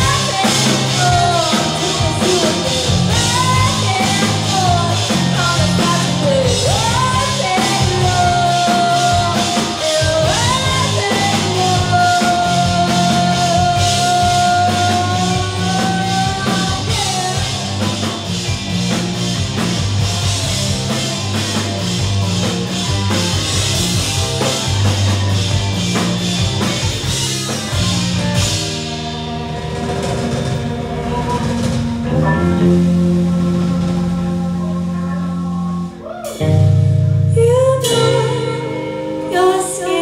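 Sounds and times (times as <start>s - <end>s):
repeating low bass line: 0.0s - 37.5s
live rock band playing: 0.0s - 40.0s
sliding high guitar notes: 0.0s - 40.0s.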